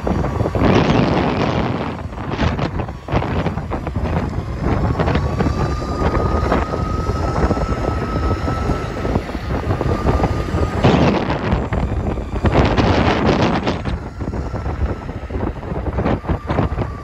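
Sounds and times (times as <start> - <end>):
faint steady whine: 0.0 - 17.0
wheels rolling over asphalt: 0.0 - 17.0
wind buffeting microphone: 0.0 - 17.0.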